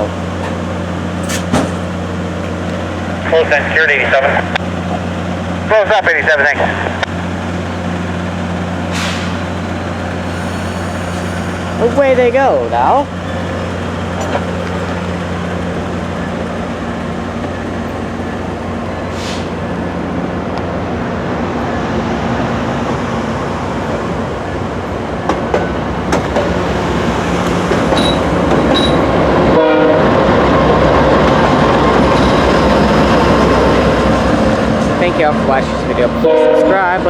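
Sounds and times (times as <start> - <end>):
diesel locomotive drone: 0.0 - 37.0
train cars rumbling: 0.0 - 37.0.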